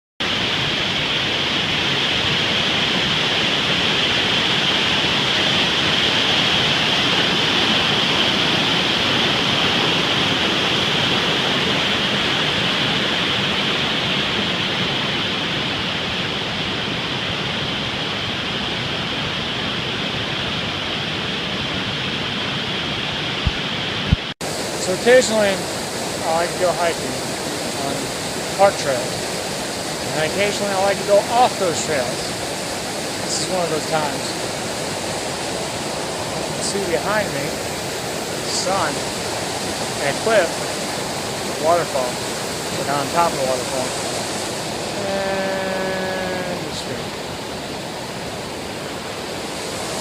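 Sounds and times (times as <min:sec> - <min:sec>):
waterfall and creek rushing: 0:00.2 - 0:50.0.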